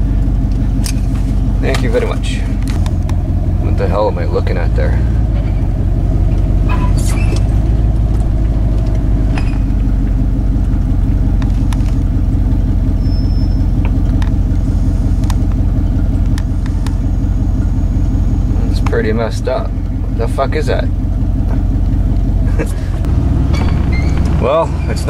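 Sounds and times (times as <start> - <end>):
truck engine humming: 0.0 - 25.0.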